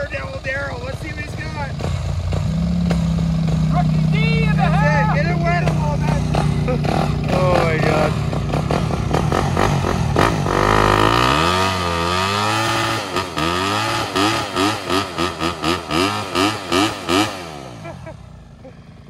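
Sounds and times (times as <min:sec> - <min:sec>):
dirt bike engine revving: 0:00.0 - 0:18.7.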